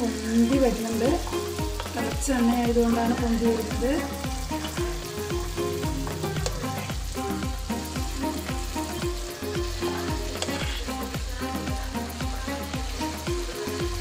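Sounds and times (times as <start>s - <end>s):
background music with a beat: 0.0s - 14.0s
batter frying in sizzling oil: 0.0s - 14.0s.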